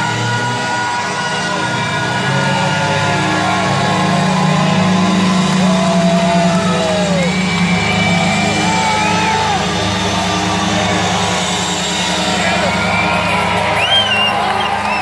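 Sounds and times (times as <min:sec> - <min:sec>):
crowd cheering and applauding: 0:00.0 - 0:15.0
whoops and yells: 0:00.0 - 0:15.0.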